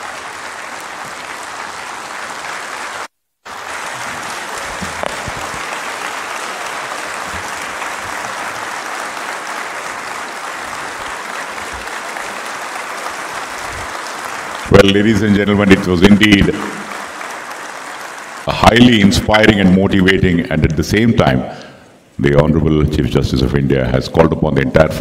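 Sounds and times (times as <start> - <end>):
audience applauding: 0.0 - 20.1.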